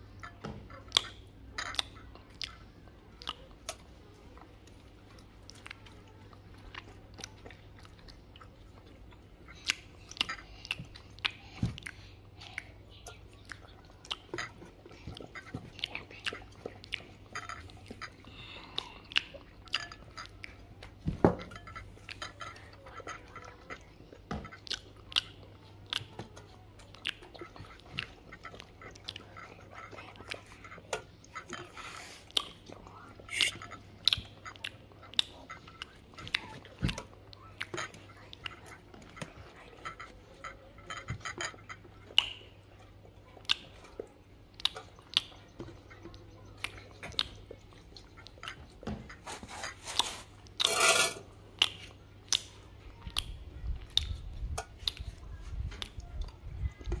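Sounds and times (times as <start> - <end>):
dog chewing from steel pot: 0.0 - 51.8.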